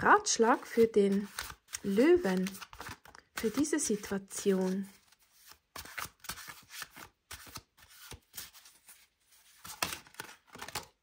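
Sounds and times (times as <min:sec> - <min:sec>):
cards being shuffled: 0:00.4 - 0:11.0.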